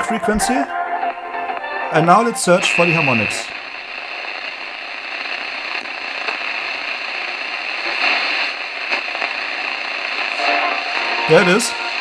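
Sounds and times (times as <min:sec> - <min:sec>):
faint music through static: 0:00.0 - 0:12.0
radio static hiss and crackle: 0:00.0 - 0:12.0.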